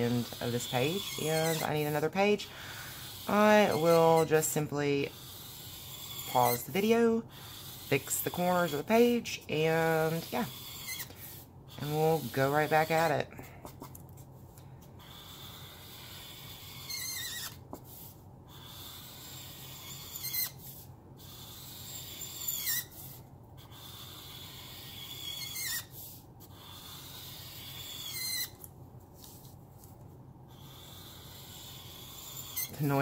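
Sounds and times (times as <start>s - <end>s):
marker squeaking: 0.0s - 2.2s, 3.0s - 13.9s, 15.0s - 28.7s, 30.7s - 33.0s
marker rubbing across paper: 0.0s - 2.3s, 3.0s - 14.4s, 15.0s - 28.6s, 30.6s - 33.0s.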